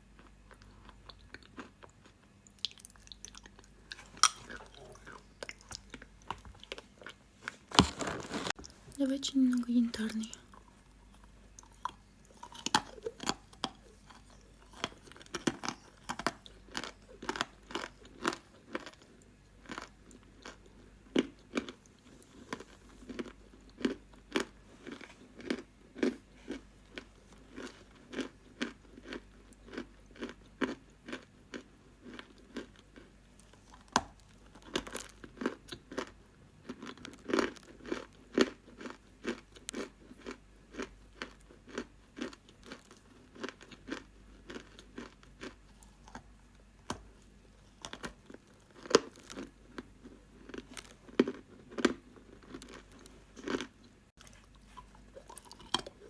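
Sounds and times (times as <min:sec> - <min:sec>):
chewing crunchy clay: 0:00.0 - 0:08.9, 0:10.0 - 0:56.0.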